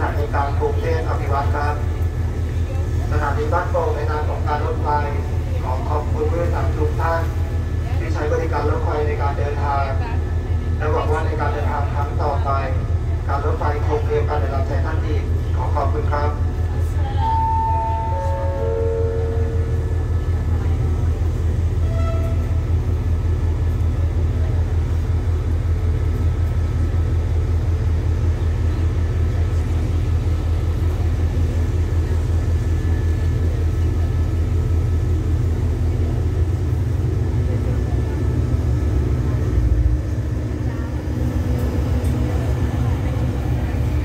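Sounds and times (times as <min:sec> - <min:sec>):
train engine throbbing: 0:00.0 - 0:44.0.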